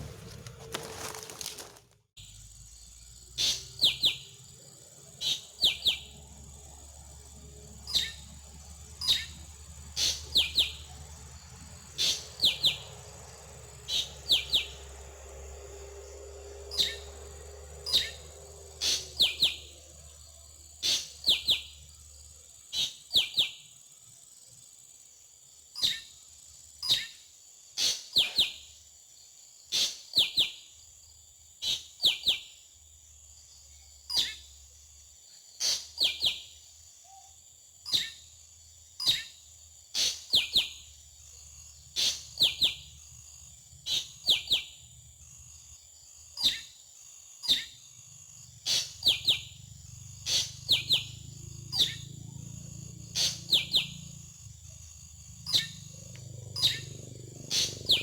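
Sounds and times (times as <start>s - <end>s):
high-pitched insect-like hiss: 2.2s - 58.0s.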